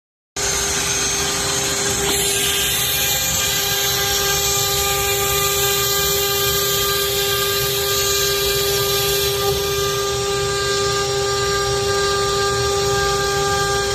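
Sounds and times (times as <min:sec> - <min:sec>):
machining noise: 0:00.4 - 0:13.9
router spindle whine: 0:00.4 - 0:13.9.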